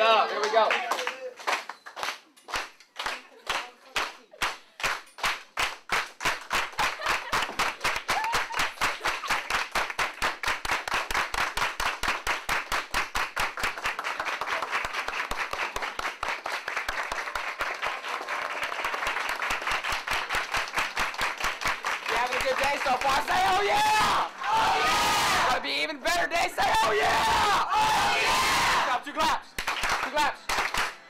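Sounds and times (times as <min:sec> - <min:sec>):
people clapping in time: 0:00.0 - 0:23.7, 0:29.4 - 0:31.0.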